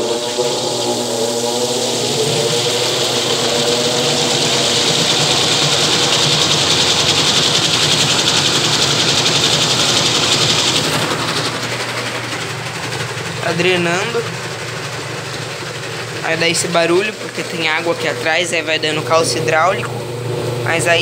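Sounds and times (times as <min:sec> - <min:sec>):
rush of water from drum: 0:00.0 - 0:18.4
washing machine motor hum: 0:00.0 - 0:21.0.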